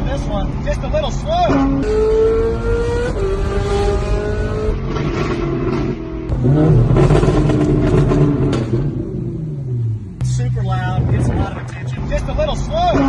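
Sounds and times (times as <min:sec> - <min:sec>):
car engine accelerating: 0:00.1 - 0:13.0.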